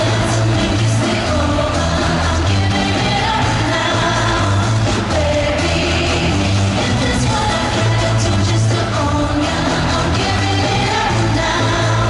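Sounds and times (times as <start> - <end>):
female vocal group singing: 0.0 - 12.0
pop band backing track: 0.0 - 12.0.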